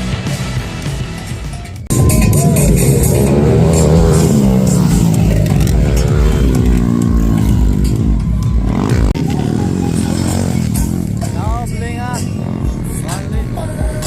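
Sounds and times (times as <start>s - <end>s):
dirt bike engines revving: 1.9s - 14.0s.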